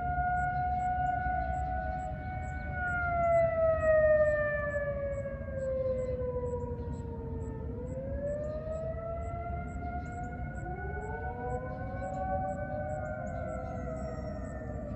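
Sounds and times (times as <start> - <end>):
sirens holding high tones: 0.0 - 14.9
warning siren wailing: 0.0 - 14.9.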